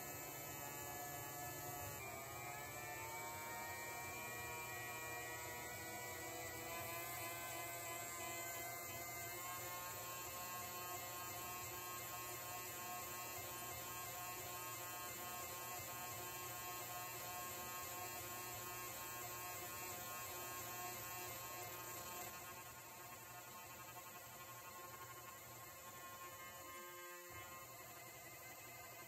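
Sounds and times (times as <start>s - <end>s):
air die grinder whining: 0.0s - 29.0s.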